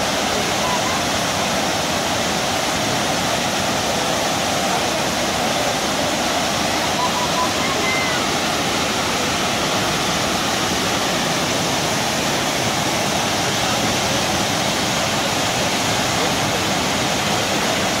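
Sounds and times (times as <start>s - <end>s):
waterfall rushing and splashing: 0.0s - 18.0s.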